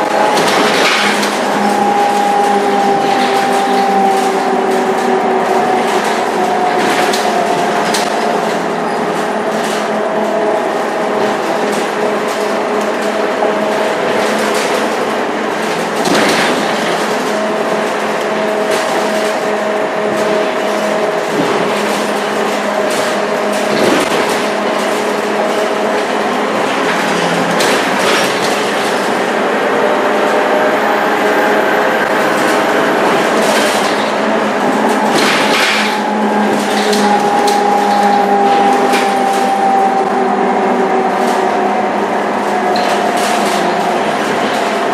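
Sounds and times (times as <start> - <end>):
bodywork rattles and knocks: 0.0 - 29.4, 32.2 - 40.0
bus engine droning with whine: 0.0 - 44.9
road noise: 0.0 - 44.9.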